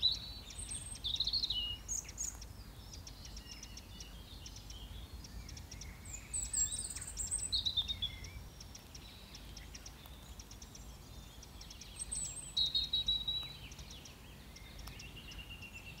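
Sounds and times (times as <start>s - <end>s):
small songbirds singing: 0.0s - 16.0s.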